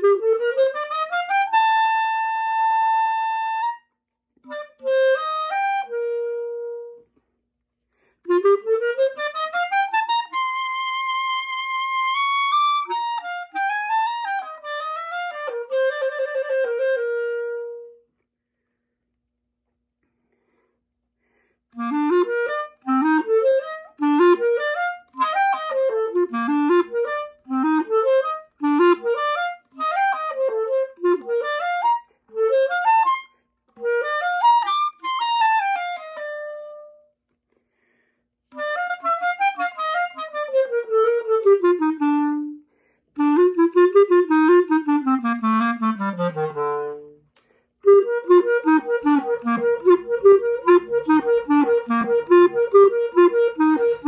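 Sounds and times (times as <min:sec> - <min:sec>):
clarinet playing: 0:00.0 - 0:07.1, 0:08.0 - 0:18.1, 0:21.7 - 0:37.2, 0:38.5 - 0:54.0.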